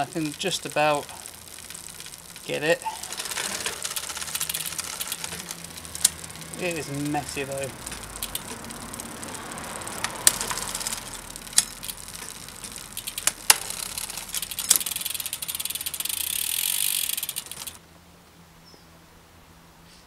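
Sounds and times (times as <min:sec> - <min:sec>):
bicycle chain running over chainrings: 0:00.0 - 0:17.8
derailleur clicks: 0:00.0 - 0:17.8
high ratcheting hiss: 0:00.0 - 0:17.8.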